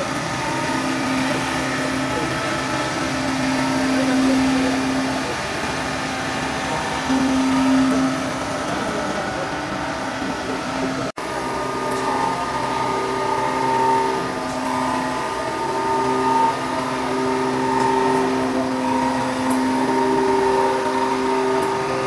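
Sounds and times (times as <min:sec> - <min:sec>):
surface grinder humming: 0:00.0 - 0:22.0.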